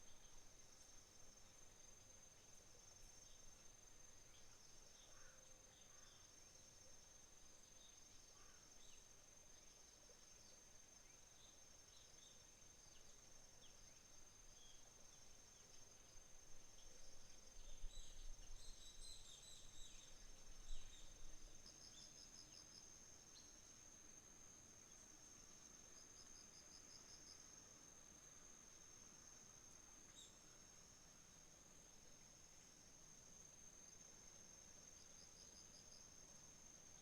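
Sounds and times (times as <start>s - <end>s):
insect pulsed chirps: 0.0s - 37.0s
insects trilling: 0.0s - 37.0s.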